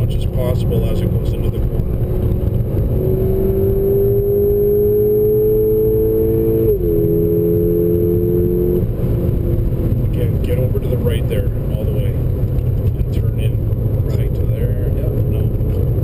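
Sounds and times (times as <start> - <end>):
car engine accelerating: 0.0 - 16.0
road and tyre rumble: 0.0 - 16.0.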